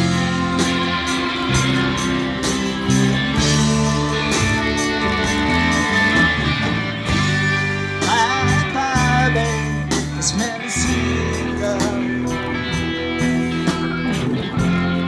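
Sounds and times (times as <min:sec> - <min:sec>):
bent lead guitar notes: 0:00.0 - 0:15.0
rock band playing instrumental: 0:00.0 - 0:15.0.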